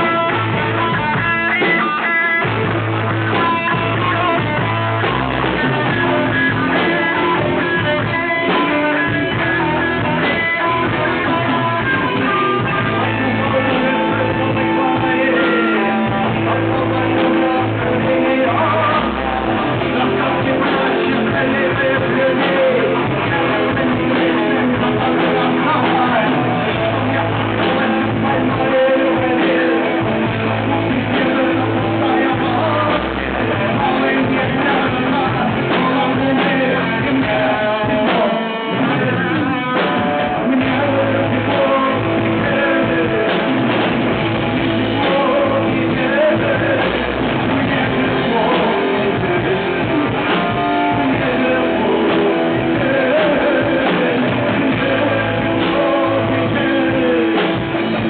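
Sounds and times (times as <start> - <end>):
electric guitars: 0.0 - 58.0
live rock band playing: 0.0 - 58.0.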